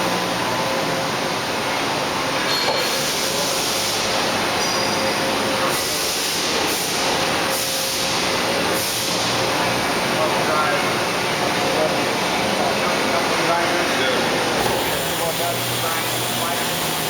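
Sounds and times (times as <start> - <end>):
machining center hum and hiss: 0.0 - 17.0.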